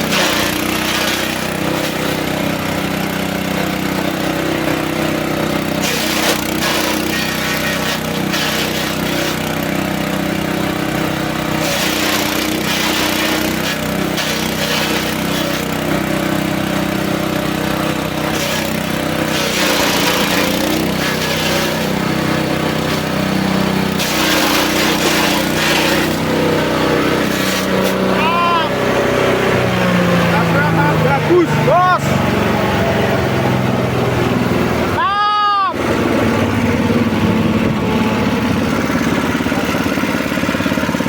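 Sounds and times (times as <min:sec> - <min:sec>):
feed chopper machine running: 0:00.0 - 0:41.0.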